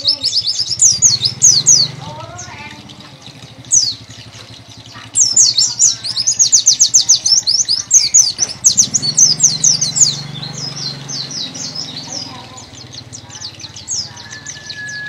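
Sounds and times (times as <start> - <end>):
bird singing high sweeping notes: 0.0 - 15.0.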